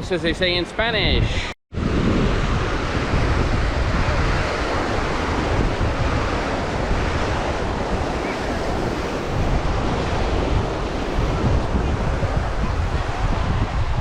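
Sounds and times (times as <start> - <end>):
wind buffeting microphone: 0.0 - 14.0
surf washing onto beach: 1.8 - 14.0.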